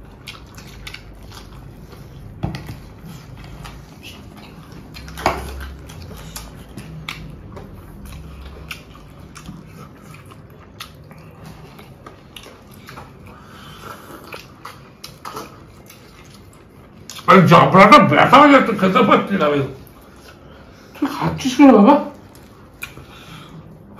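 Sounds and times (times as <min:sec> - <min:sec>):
low steady hum: 0:00.0 - 0:23.9
people chewing food: 0:00.0 - 0:23.9.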